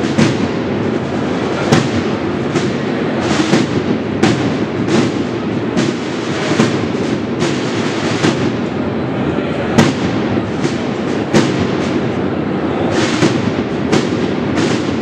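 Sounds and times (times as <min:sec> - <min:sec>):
slow drum beat: 0:00.0 - 0:09.0, 0:09.7 - 0:15.0
noisy hall ambience: 0:00.0 - 0:15.0.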